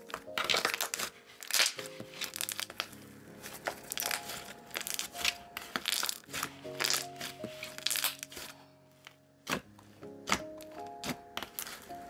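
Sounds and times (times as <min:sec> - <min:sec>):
slime popping and squishing: 0:00.0 - 0:08.5, 0:09.4 - 0:12.0.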